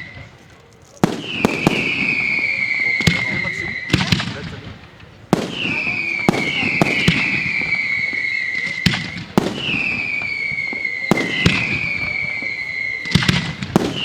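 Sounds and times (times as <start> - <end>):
firework launch shots: 0.0 - 14.0
firework whistle falling in pitch: 1.2 - 4.0, 5.5 - 14.0.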